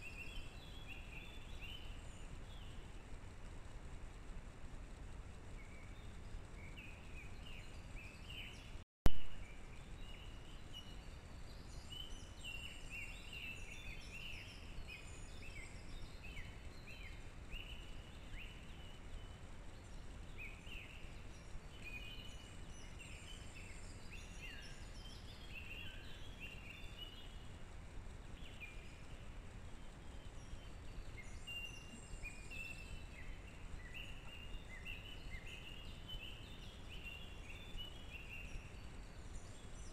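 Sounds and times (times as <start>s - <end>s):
songbirds chirping and singing: 0.0s - 3.0s, 4.8s - 8.8s, 9.4s - 39.9s
low background rumble: 0.0s - 39.9s.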